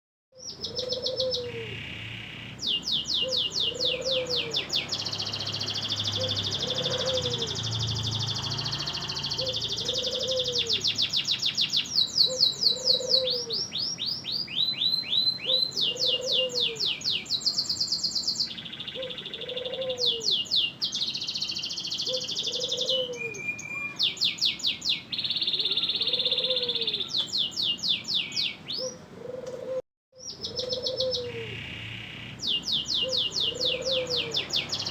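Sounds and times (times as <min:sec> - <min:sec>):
canary singing trills: 0:00.4 - 0:29.1, 0:30.2 - 0:34.9.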